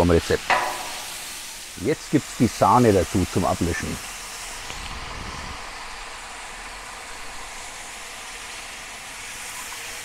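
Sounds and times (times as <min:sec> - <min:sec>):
onions sizzling in a pan: 0:00.0 - 0:10.0.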